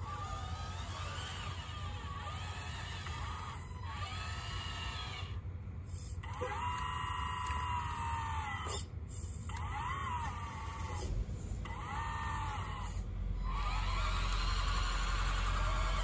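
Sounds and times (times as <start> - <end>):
toy electric motors whining: 0.0 - 16.0.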